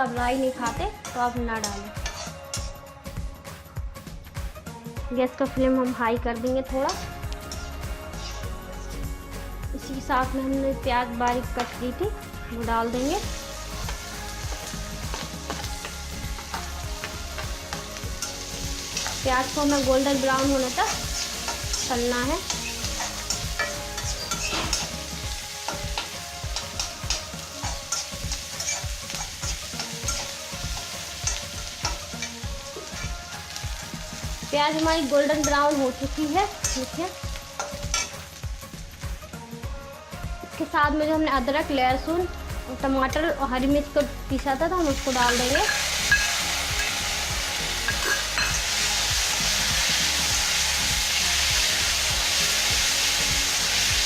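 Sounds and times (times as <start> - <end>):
onion sizzling in oil: 0.0 - 2.8, 6.6 - 39.7, 42.0 - 54.0.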